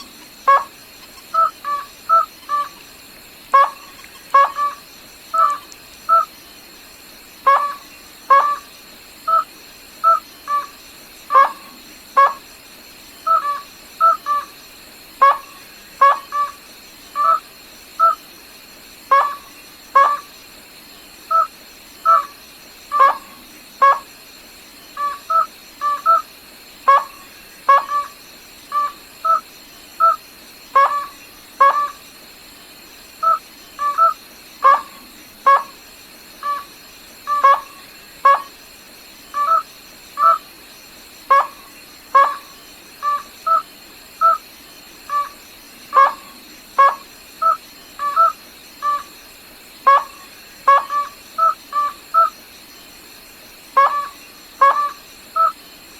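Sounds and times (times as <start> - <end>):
rail bird calling: 0.0 - 6.4, 7.4 - 12.5, 13.2 - 14.6, 15.2 - 18.2, 19.1 - 20.4, 21.3 - 24.1, 24.9 - 32.1, 33.2 - 35.8, 36.4 - 38.6, 39.3 - 40.5, 41.3 - 49.2, 49.8 - 52.4, 53.8 - 55.6.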